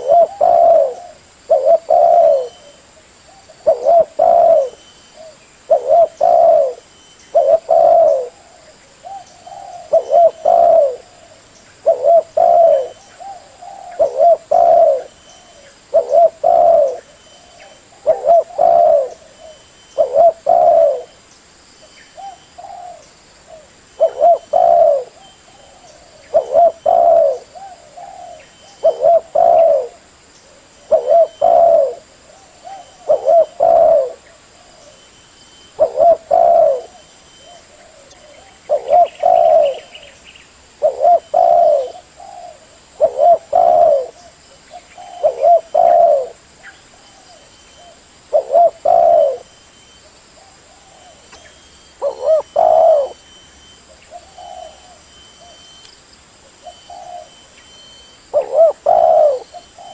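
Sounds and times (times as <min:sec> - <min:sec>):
dove cooing: 0:00.0 - 0:21.2, 0:22.2 - 0:35.1, 0:35.7 - 0:40.2, 0:40.8 - 0:49.6, 0:50.3 - 0:55.8, 0:56.5 - 0:59.9.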